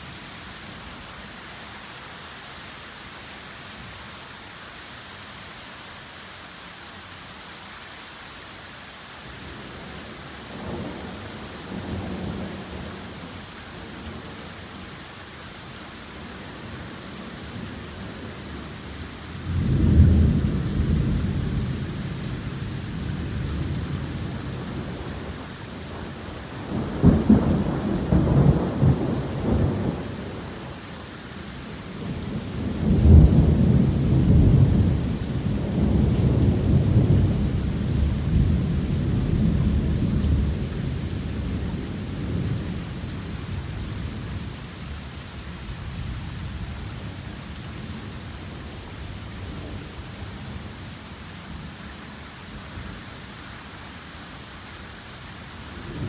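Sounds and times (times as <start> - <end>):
torrential rain: 0.0 - 56.0.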